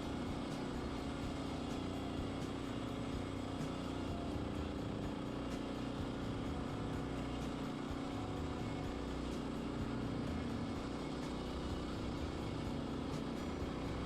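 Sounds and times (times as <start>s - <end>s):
sawmill gasoline engine running: 0.0s - 14.0s.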